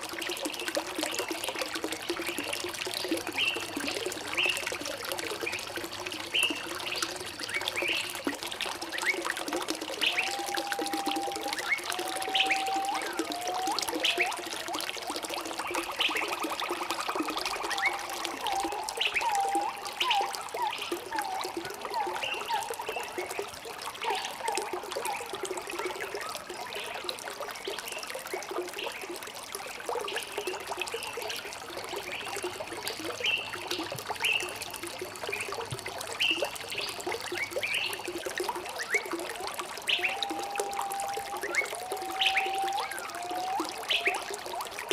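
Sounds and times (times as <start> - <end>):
water trickling and babbling: 0.0 - 44.9.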